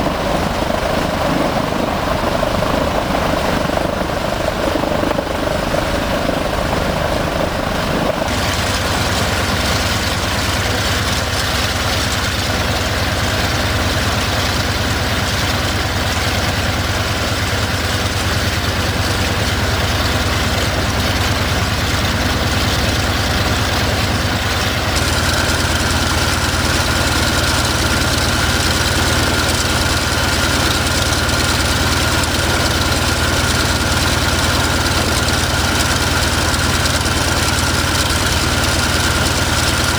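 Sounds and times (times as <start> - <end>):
radial piston engines running: 0.0 - 39.9.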